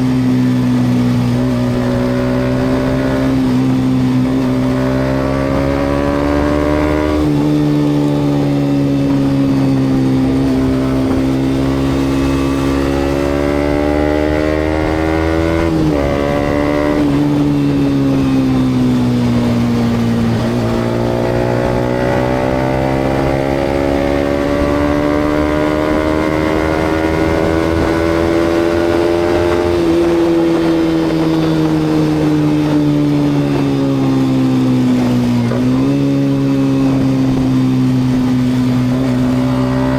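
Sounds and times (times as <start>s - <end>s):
motorcycle engine revving: 0.0s - 39.9s
road and wind noise: 0.0s - 39.9s.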